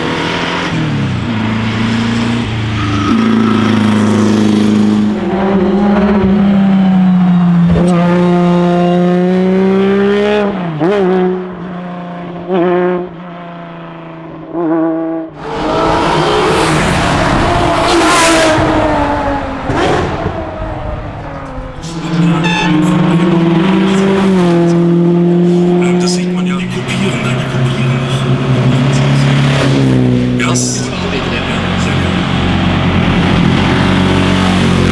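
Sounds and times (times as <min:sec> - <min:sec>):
racing car engine blipping: 0:00.0 - 0:11.0, 0:15.4 - 0:34.9
car passing at full throttle: 0:00.0 - 0:12.2, 0:15.4 - 0:34.9.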